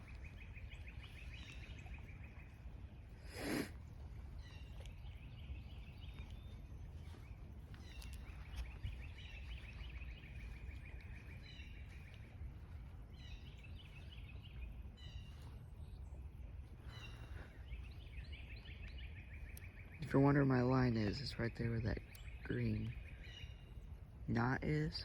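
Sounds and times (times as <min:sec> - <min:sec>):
low outdoor rumble: 0:00.0 - 0:25.0
songbirds chirping: 0:00.0 - 0:25.0.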